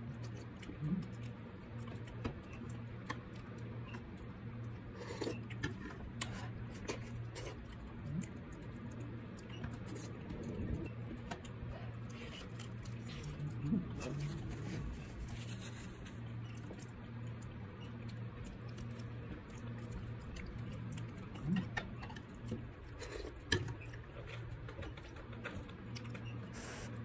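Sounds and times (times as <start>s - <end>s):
steady low hum: 0.0s - 27.0s
wet chewing and lip-smacking: 0.0s - 27.0s.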